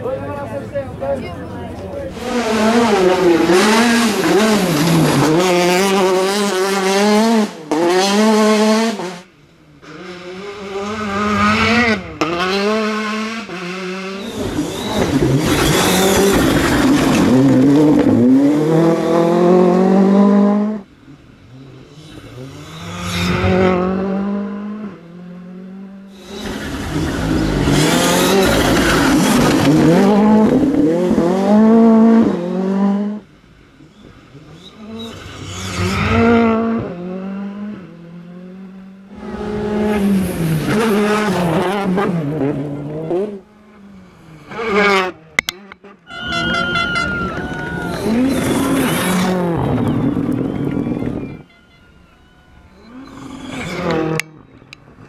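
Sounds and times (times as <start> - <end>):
rally cars revving past: 2.0 - 33.2, 33.9 - 51.4, 52.8 - 55.0.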